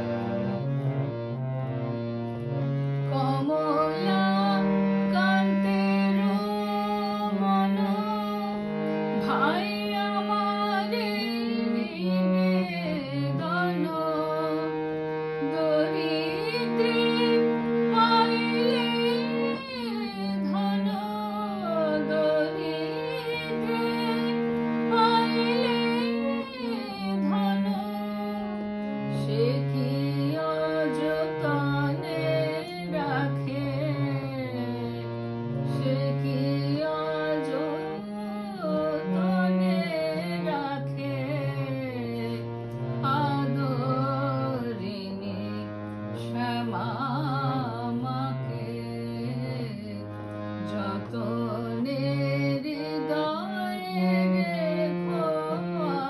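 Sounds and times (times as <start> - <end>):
harmonium chords: 0.0 - 56.0
woman singing devotional song: 3.0 - 56.0.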